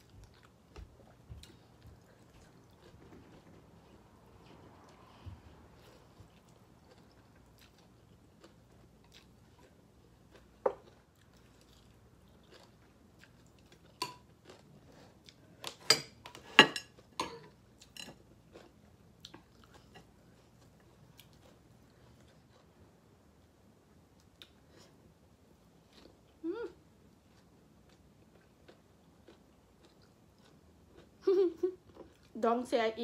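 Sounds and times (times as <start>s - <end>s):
person chewing food: 0.0s - 32.3s.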